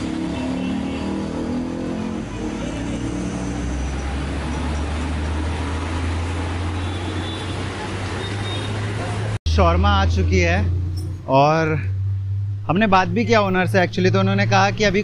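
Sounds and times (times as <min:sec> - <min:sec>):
road traffic: 0:00.0 - 0:15.0
vehicle engine humming: 0:00.0 - 0:15.0.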